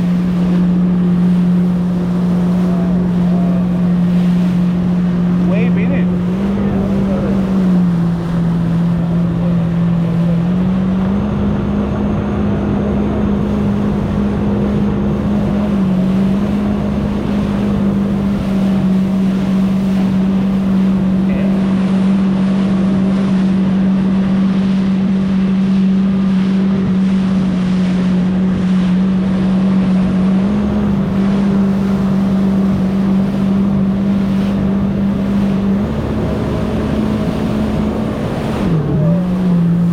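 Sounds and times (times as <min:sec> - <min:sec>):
jet ski engine drone: 0:00.0 - 0:39.9
water noise: 0:00.0 - 0:39.9.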